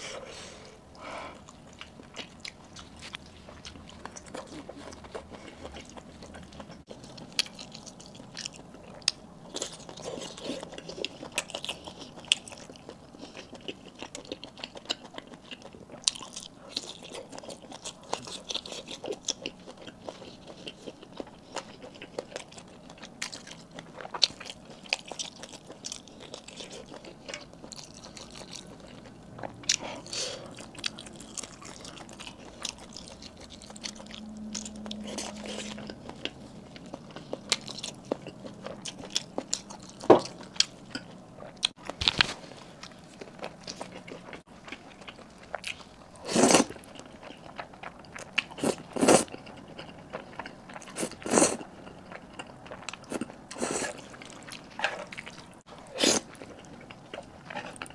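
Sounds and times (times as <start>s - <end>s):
biting and wet chewing: 1.4s - 57.9s.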